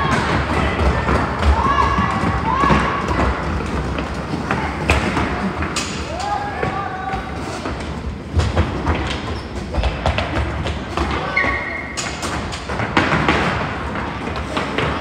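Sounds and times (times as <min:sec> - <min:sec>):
roller skates on wooden floor: 0:00.0 - 0:15.0.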